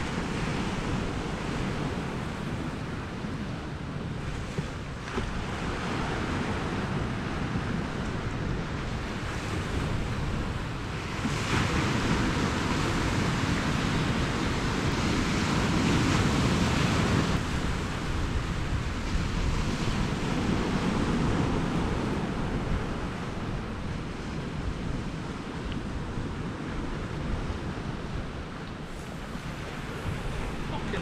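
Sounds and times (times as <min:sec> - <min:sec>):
sea waves washing against rocks: 0:00.0 - 0:31.0
wind on microphone: 0:00.0 - 0:31.0.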